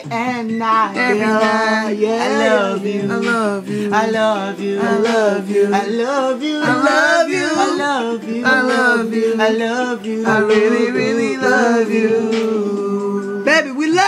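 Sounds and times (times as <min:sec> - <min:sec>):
men singing wordless melody: 0:00.0 - 0:13.8.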